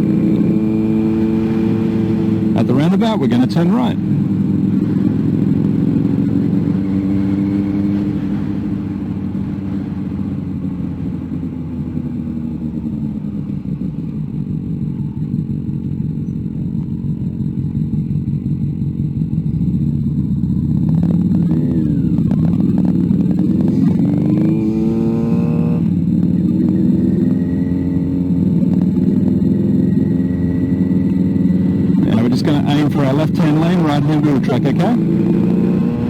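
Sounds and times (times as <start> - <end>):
motorcycle engine running: 0.0 - 36.0
road and wind noise: 0.0 - 36.0.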